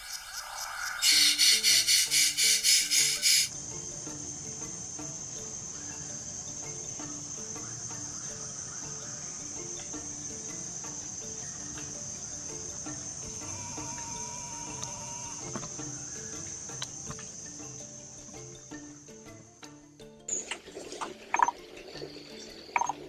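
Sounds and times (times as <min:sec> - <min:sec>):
high-pitched insect drone: 0:00.0 - 0:19.9
soft music of low notes: 0:01.1 - 0:23.0.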